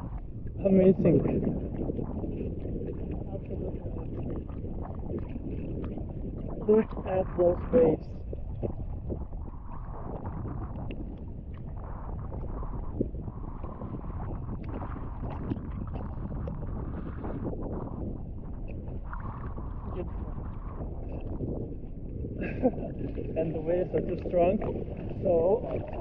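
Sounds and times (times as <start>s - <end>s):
sea water splashing: 0.0s - 26.0s
wind buffeting microphone: 0.0s - 26.0s.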